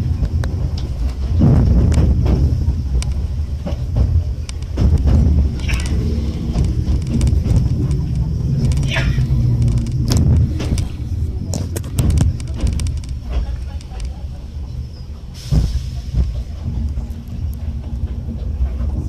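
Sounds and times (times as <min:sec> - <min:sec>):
train rumbling along track: 0:00.0 - 0:19.0
wheels clacking over rail joints: 0:00.0 - 0:19.0.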